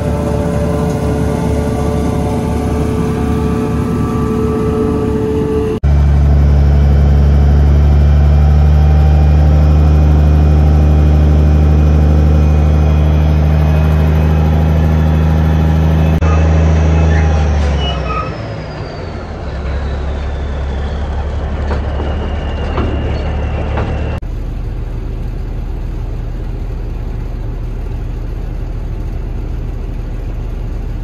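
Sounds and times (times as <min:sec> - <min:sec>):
deep engine drone: 0:00.0 - 0:31.0
farm machinery engines running: 0:00.0 - 0:31.0.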